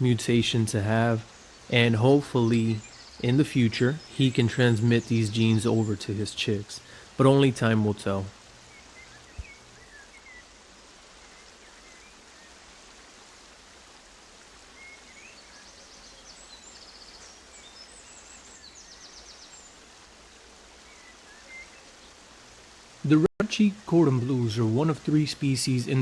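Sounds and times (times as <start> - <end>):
birds chirping and twittering: 0.0 - 12.9, 14.6 - 26.0
steady hiss: 0.0 - 26.0.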